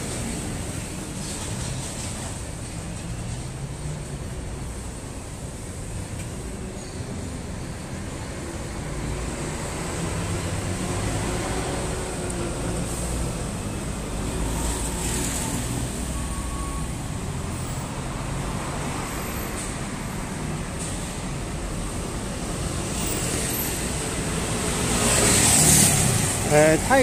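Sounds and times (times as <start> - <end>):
rumble of passing traffic: 0.0 - 27.0.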